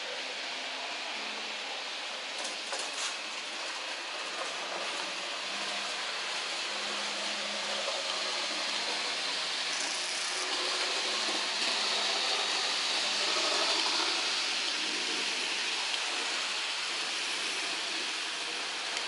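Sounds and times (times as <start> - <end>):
model train wheels rolling on track: 0.0 - 19.0.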